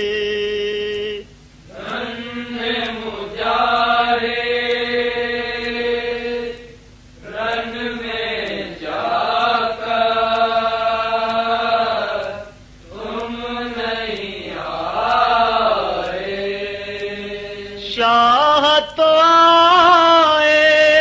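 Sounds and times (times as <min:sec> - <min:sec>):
man singing lament unaccompanied: 0:00.0 - 0:21.0.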